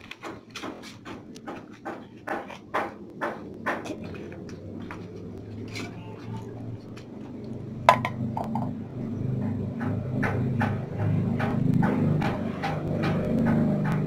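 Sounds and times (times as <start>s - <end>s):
low hum: 1.4s - 14.0s.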